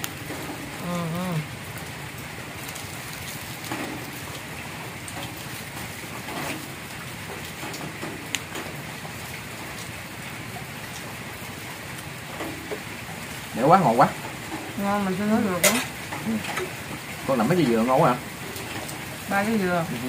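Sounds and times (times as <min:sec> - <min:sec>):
falling rain hiss: 0:00.0 - 0:20.0.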